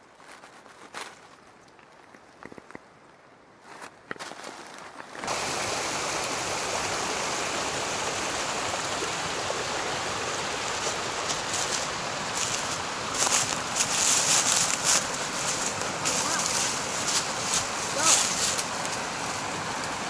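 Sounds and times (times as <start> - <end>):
small stream of running water: 3.7 - 20.0.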